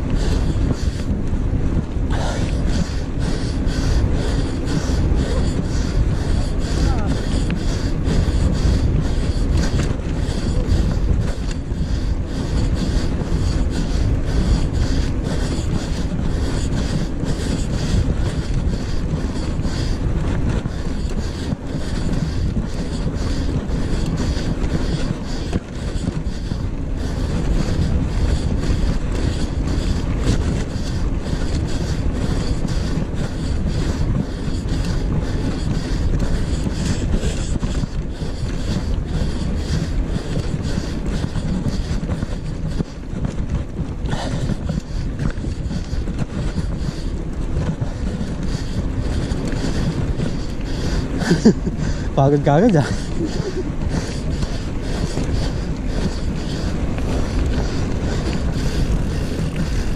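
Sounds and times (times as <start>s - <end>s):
bike rattling clicks: 0.0s - 52.1s, 52.8s - 59.9s
bike tyre rumble: 0.0s - 59.9s
wind buffeting microphone: 0.0s - 59.9s.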